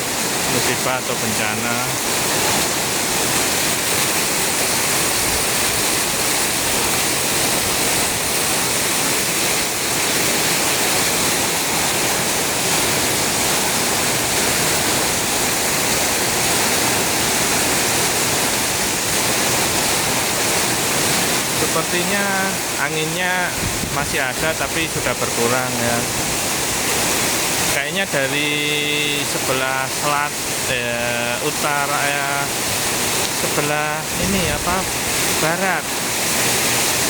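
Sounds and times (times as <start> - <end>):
heavy rain in strong wind: 0.0 - 37.0.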